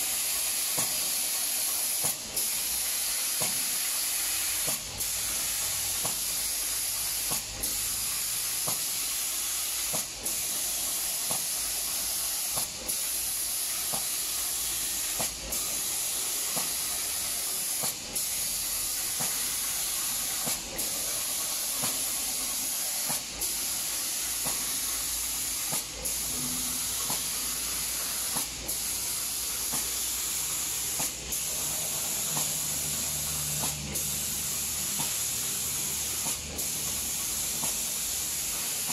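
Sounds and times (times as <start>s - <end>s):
spray guns hissing: 0.0s - 38.9s.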